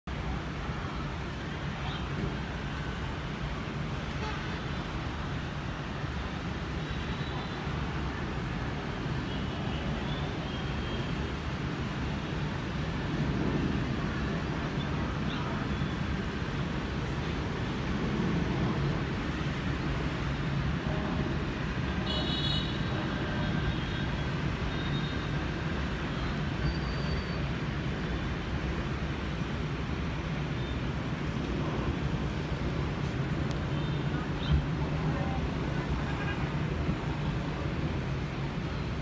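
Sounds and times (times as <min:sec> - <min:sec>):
city traffic: 0:00.0 - 0:39.0.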